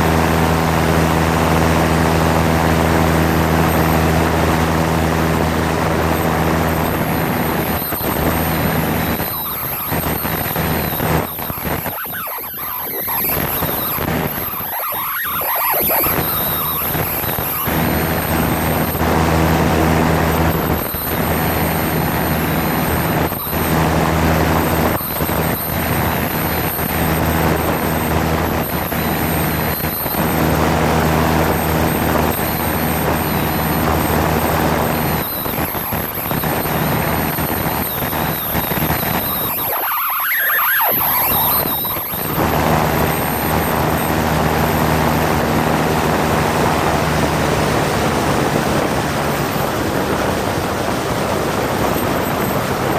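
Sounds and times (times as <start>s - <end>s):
propeller plane engine drone: 0.0s - 52.9s.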